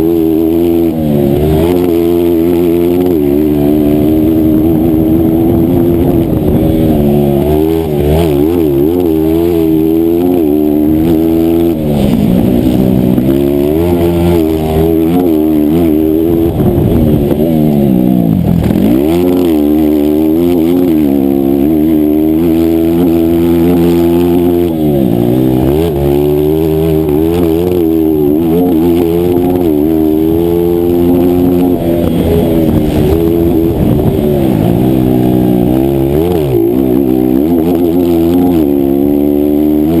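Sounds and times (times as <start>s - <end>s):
racing motorcycle engine: 0.0s - 40.0s.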